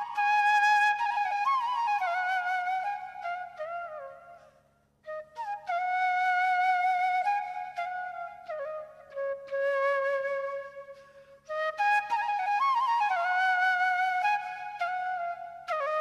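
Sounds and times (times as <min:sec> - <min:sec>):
solo flute playing slow notes: 0:00.0 - 0:16.0.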